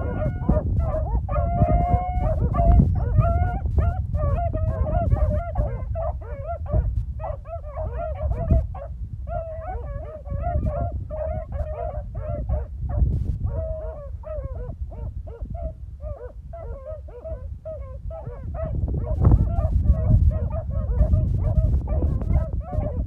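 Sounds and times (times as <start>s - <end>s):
dogs baying and yelping: 0.0s - 23.0s
wind rumble on microphone: 0.0s - 23.0s.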